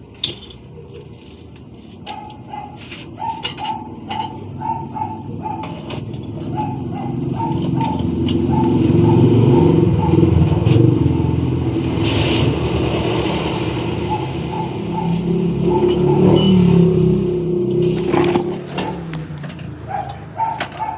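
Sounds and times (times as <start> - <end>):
engine humming: 0.0 - 20.9.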